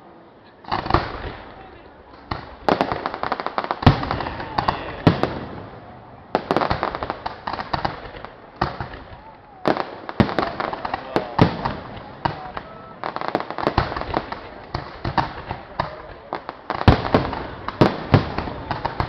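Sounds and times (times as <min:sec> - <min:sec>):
fireworks booms: 0:00.6 - 0:19.0
fireworks cracks and bangs: 0:00.7 - 0:19.0.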